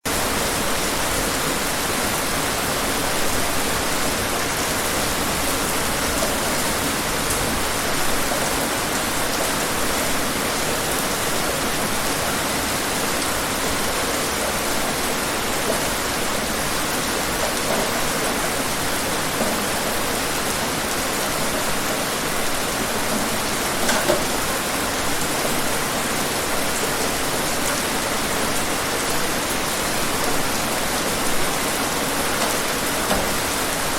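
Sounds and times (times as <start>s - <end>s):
louder raindrops: 0.1s - 33.9s
rain falling: 0.1s - 33.9s.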